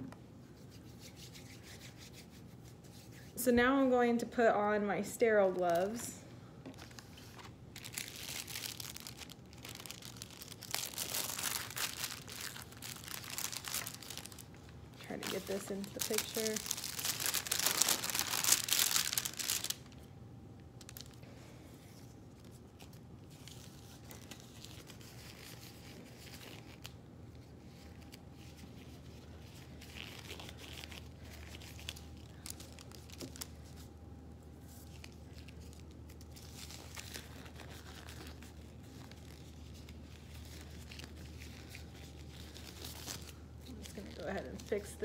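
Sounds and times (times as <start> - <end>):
glove wrapper crinkling: 6.6 - 45.0.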